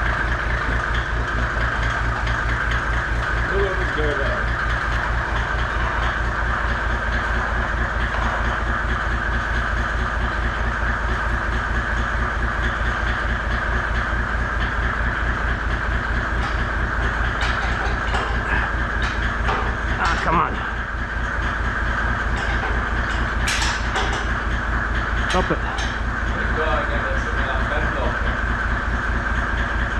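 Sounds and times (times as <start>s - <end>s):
machine running with low pulse: 0.0s - 29.9s.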